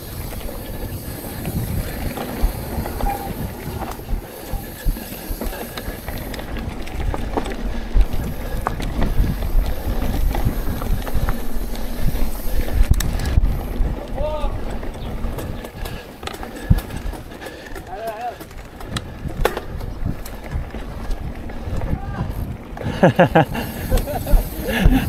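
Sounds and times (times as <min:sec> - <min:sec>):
bike clicks and rattles: 0:00.0 - 0:25.0
bike tyres rumbling over dirt: 0:00.0 - 0:25.0.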